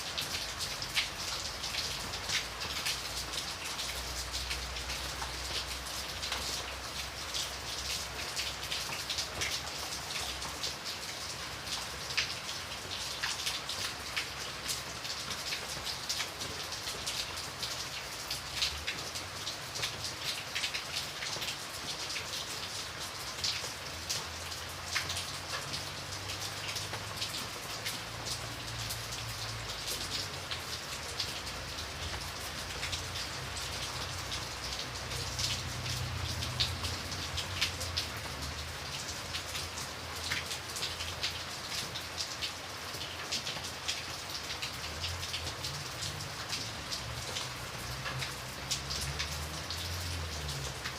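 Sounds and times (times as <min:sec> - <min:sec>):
raindrops ticking: 0:00.0 - 0:50.9
steady rain hiss: 0:00.0 - 0:50.9.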